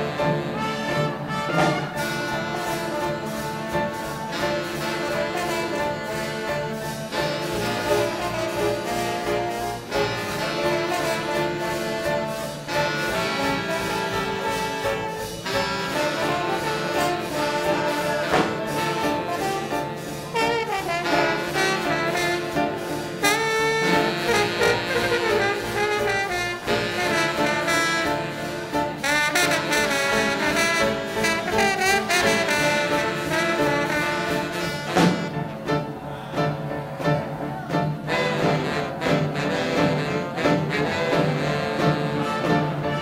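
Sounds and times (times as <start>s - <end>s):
big band playing swing jazz: 0.0s - 43.0s.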